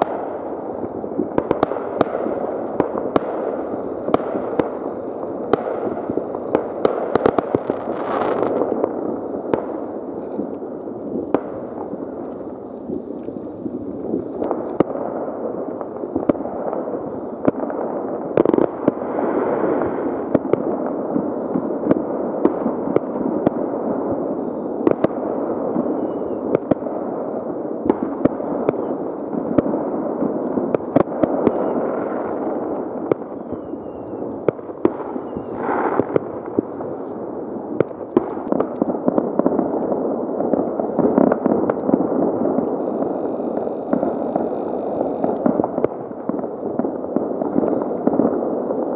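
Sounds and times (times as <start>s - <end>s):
firework bangs: 0.0s - 48.9s
fireworks crackling and popping: 0.0s - 48.9s.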